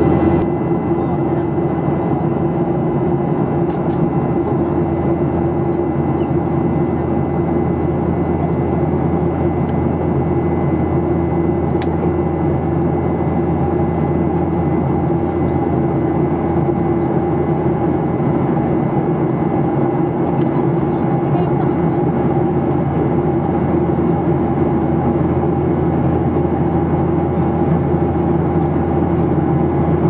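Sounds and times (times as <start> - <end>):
jet engine hum: 0.0 - 30.0.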